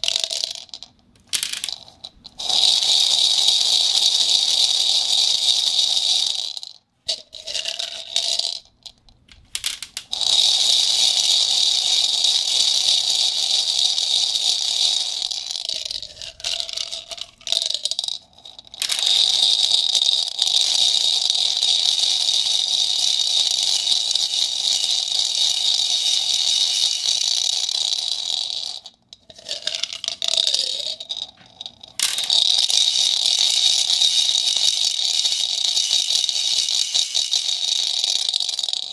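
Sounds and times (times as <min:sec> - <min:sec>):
ball rattling in plastic cup: 0:00.0 - 0:38.9.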